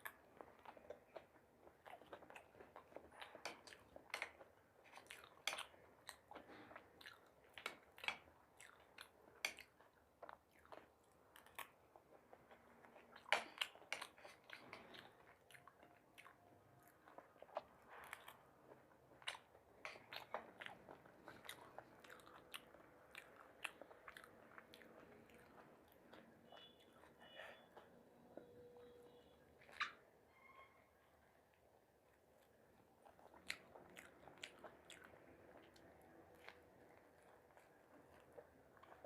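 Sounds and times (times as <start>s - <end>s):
person chewing crunchy food: 0.0s - 28.5s, 31.5s - 39.0s.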